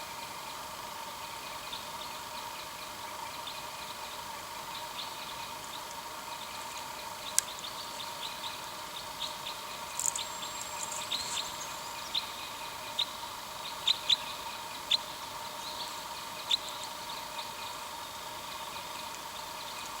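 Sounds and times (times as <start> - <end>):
faint steady hum: 0.0 - 20.0
small birds chirping: 1.5 - 20.0.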